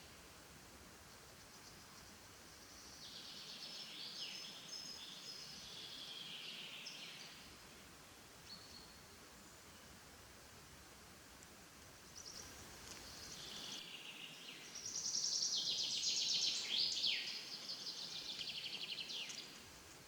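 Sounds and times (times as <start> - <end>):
forest background: 0.0 - 20.0.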